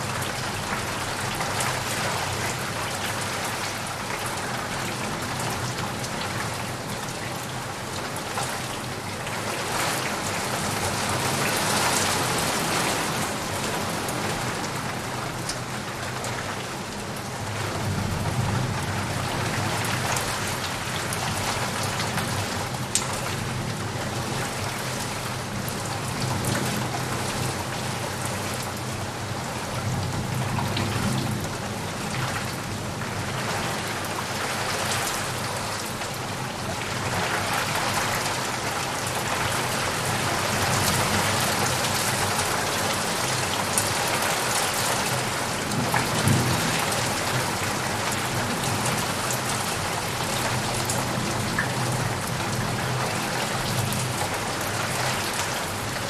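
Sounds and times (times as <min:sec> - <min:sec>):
heavy rain on leaves and puddles: 0:00.0 - 0:56.0.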